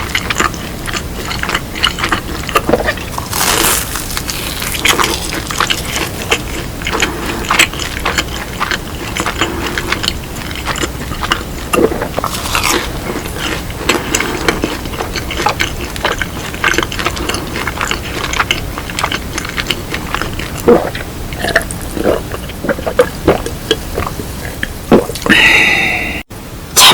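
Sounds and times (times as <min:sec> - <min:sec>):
crunchy chewing: 0:00.0 - 0:25.3.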